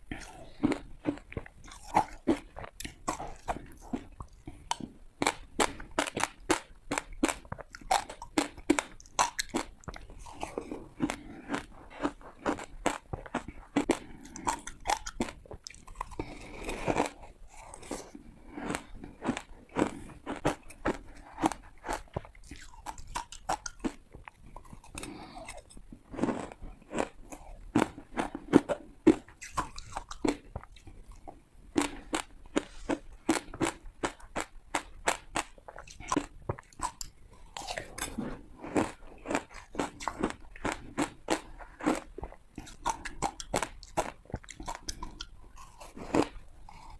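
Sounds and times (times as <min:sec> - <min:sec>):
ice crunching between teeth: 0:00.1 - 0:46.9.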